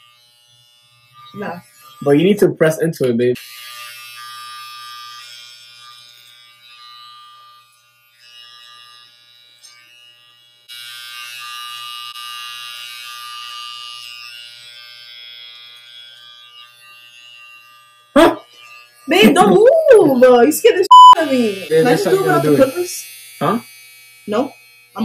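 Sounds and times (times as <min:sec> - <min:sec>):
electric hair clippers buzzing: 0:00.0 - 0:02.4, 0:03.0 - 0:25.0.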